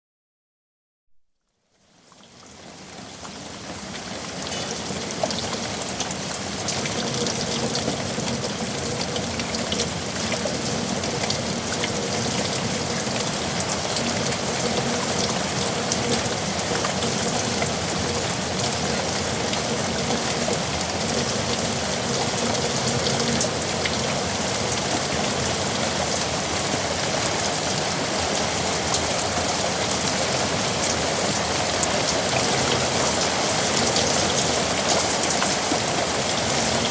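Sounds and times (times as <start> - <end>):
heavy rain hissing: 4.0 - 36.9
raindrops ticking: 4.5 - 36.9.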